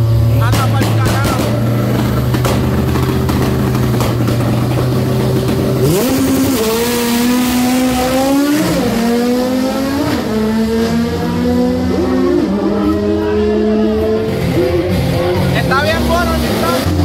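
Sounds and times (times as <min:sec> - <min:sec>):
drag racing car engine revving: 0:00.0 - 0:17.0.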